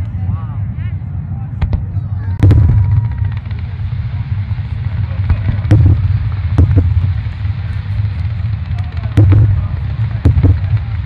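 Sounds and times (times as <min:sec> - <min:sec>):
low rumble: 0:00.0 - 0:11.0
fireworks bangs: 0:01.6 - 0:11.0.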